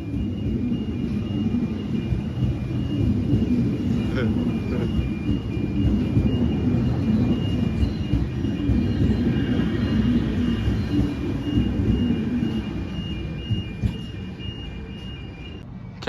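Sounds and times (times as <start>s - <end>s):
level crossing warning bells: 0.0s - 16.0s
train rumbling past: 0.0s - 16.0s.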